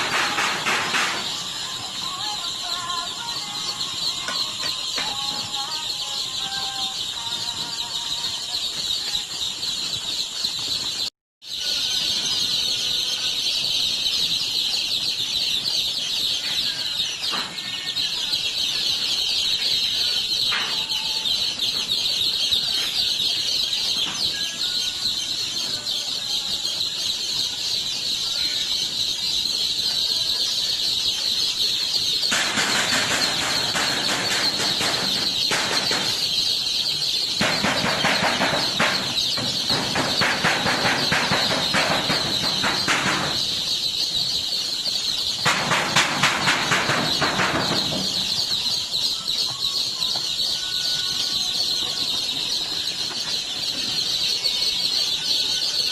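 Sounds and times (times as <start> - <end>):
baby chicks peeping: 0.0 - 55.9.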